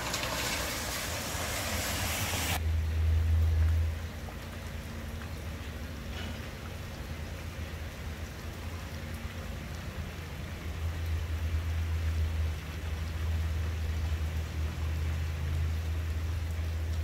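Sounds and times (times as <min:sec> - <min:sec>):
low motor hum: 0:00.0 - 0:17.0
steady rain falling: 0:00.0 - 0:17.0.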